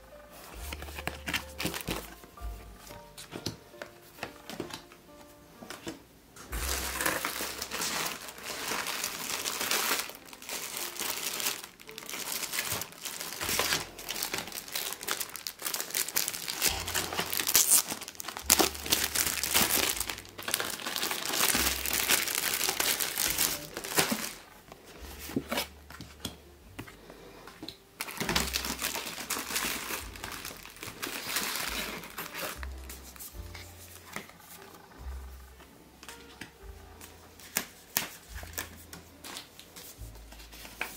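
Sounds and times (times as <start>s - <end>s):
cellophane crinkling: 0.3s - 26.3s, 27.7s - 35.2s.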